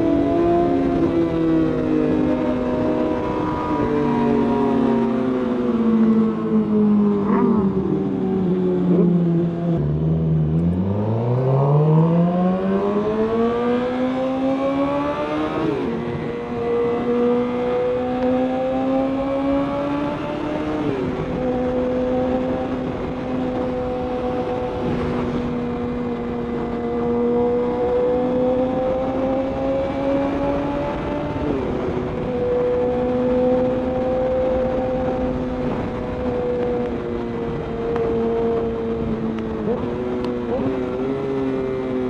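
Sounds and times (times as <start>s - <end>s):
motorcycle engine accelerating: 0.0s - 42.0s
passing motorcycle engine: 0.0s - 42.0s
wind rush: 0.0s - 42.0s.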